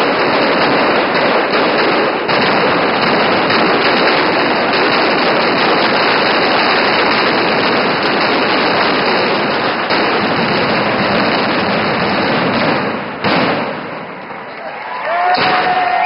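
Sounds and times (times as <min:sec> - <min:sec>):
firecrackers banging in barrage: 0:00.0 - 0:16.0.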